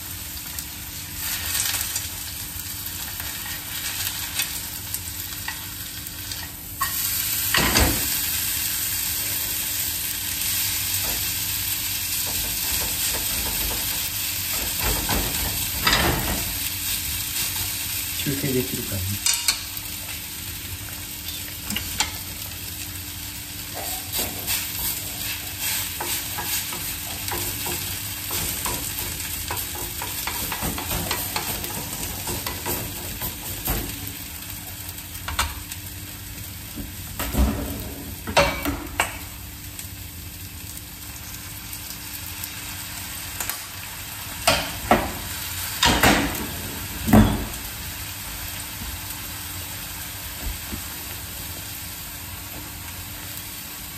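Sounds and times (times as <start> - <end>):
potatoes sizzling in oil: 0.0 - 53.9.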